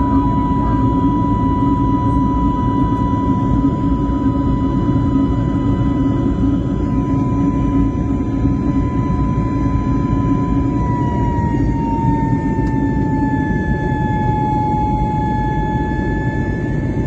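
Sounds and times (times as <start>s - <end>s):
airliner cabin engine and airflow noise: 0.0s - 17.0s.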